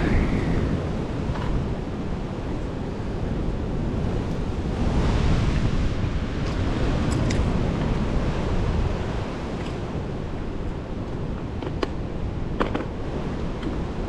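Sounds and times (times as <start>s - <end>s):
sea surf rushing: 0.0s - 14.0s
wind buffeting microphone: 0.0s - 14.0s.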